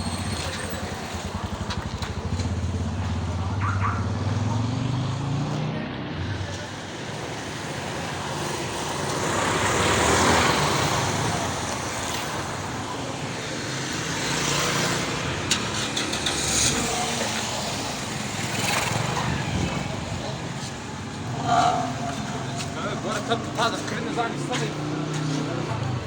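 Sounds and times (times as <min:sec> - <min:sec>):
vehicles passing: 0:00.0 - 0:26.0.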